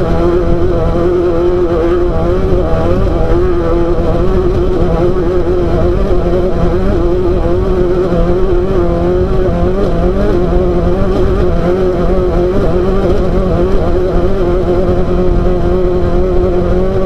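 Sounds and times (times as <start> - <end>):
constant rumbling noise: 0.0 - 17.0
race car engine at high revs: 0.0 - 17.0.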